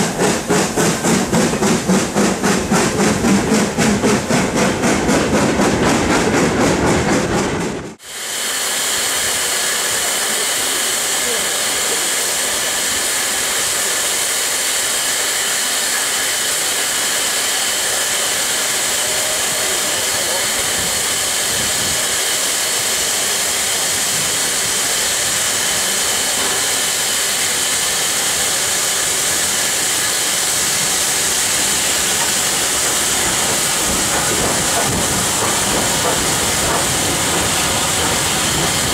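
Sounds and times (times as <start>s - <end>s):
loud hiss of steam: 0.0s - 3.8s, 8.0s - 38.9s
goods train rolling: 0.0s - 38.9s
steam train passing rhythmic beats: 0.0s - 38.9s.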